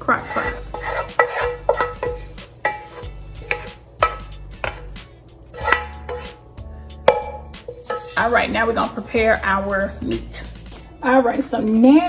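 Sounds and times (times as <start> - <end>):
wooden spoon scraping a skillet: 0.0 - 10.8.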